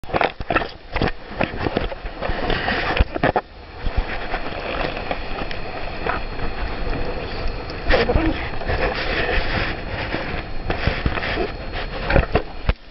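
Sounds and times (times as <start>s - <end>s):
wind buffeting microphone: 0.4s - 12.7s.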